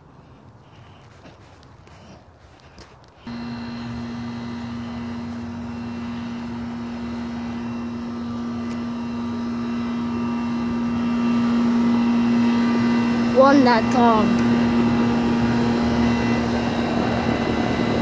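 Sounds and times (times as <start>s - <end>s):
air conditioner unit humming: 3.2s - 18.0s.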